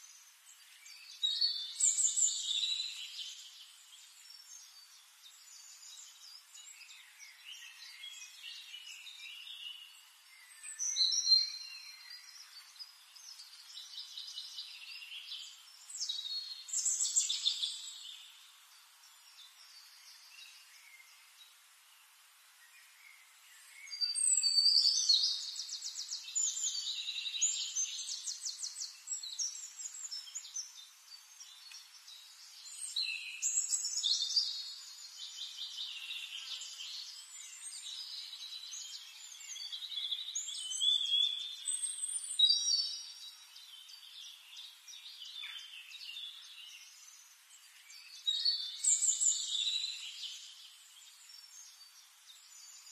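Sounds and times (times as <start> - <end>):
birds chirping and trilling: 0.0 - 52.9.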